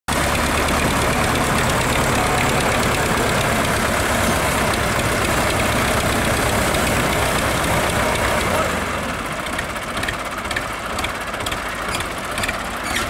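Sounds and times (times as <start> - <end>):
tractor diesel engines running: 0.1 - 13.0.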